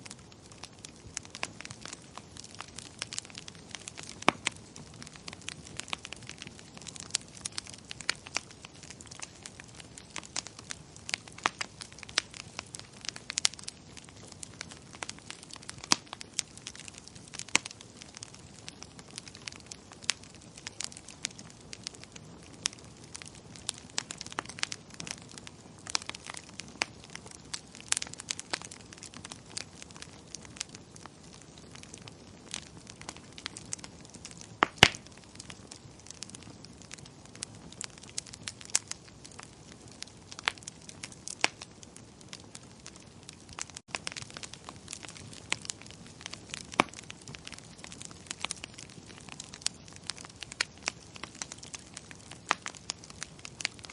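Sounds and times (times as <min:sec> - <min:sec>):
wood fire crackling and popping: 0:00.0 - 0:53.9.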